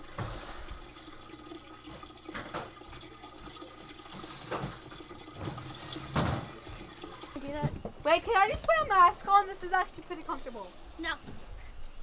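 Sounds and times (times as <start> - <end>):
running water hiss: 0.0 - 10.7.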